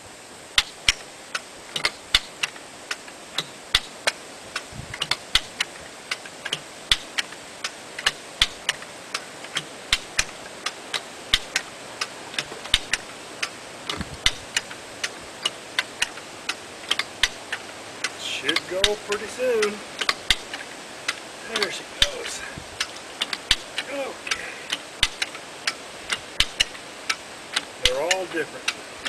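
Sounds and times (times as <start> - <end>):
ratchet clicking: 0.6 - 28.8.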